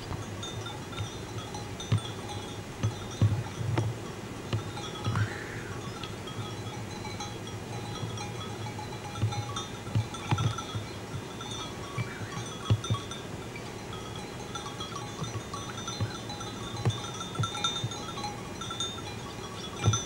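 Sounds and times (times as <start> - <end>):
sheep bells clinking: 0.0 - 20.0.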